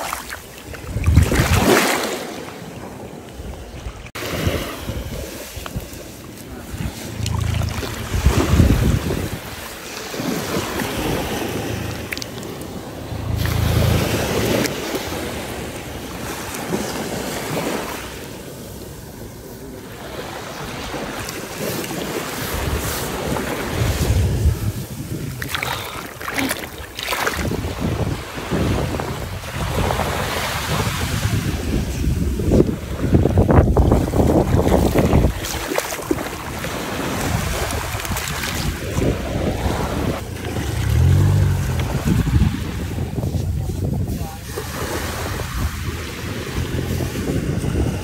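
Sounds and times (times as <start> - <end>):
sea waves washing over sand: 0.0 - 48.0
wind buffeting microphone: 0.6 - 2.1, 3.4 - 17.8, 22.0 - 26.3, 26.9 - 48.0.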